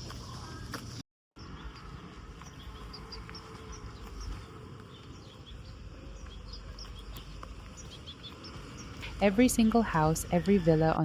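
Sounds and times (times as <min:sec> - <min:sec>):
steady low rumble: 0:01.4 - 0:11.0.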